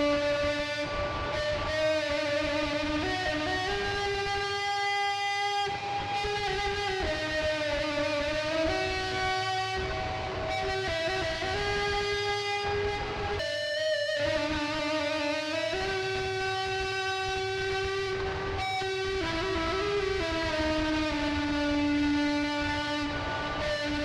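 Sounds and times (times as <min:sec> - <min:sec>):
melody of long held notes: 0:00.0 - 0:24.0.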